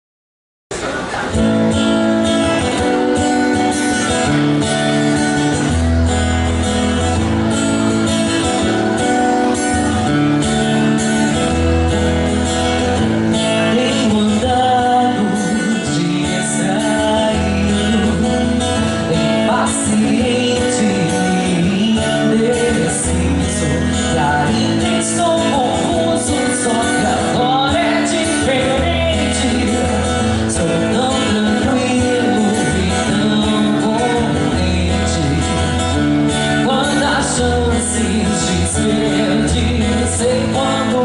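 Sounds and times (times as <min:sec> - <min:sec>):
live band playing pop-rock ballad: 0:01.3 - 0:41.0.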